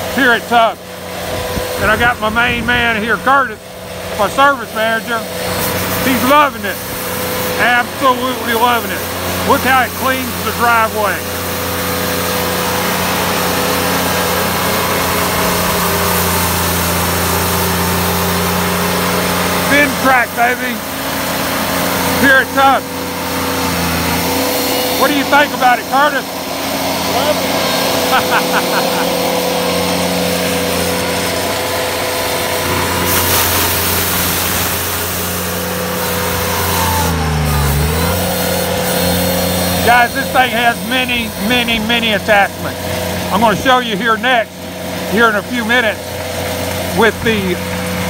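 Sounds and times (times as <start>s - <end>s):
diesel tractor engine: 0.0s - 48.0s
power broom sweeping snow: 0.0s - 48.0s.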